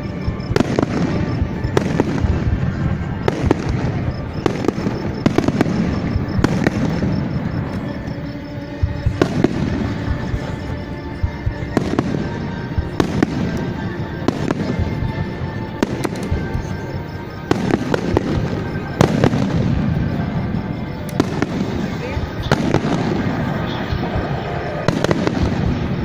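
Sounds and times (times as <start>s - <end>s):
fireworks bangs: 0.0s - 26.0s
fireworks crackling: 0.0s - 26.0s
music: 0.0s - 26.0s.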